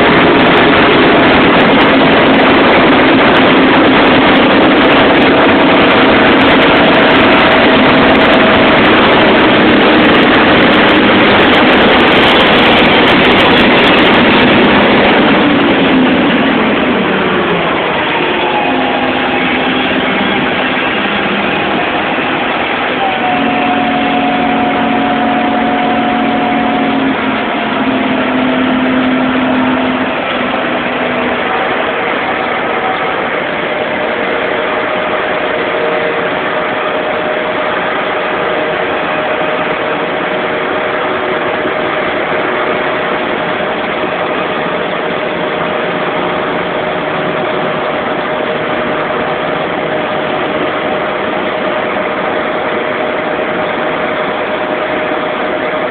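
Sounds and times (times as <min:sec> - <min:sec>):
large diesel engine running: 0:00.0 - 0:55.9
low hum: 0:00.0 - 0:55.9
steady engine whine: 0:00.0 - 0:55.9.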